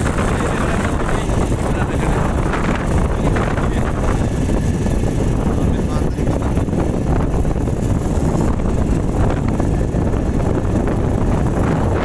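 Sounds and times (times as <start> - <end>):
vehicle rumble: 0.0 - 12.0
wind buffeting microphone: 0.0 - 12.0.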